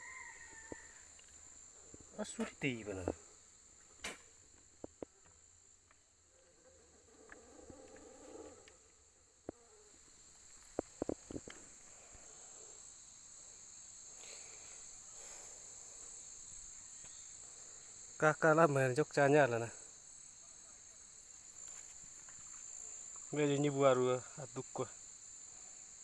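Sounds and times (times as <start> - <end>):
insect chirring: 0.0 - 26.0.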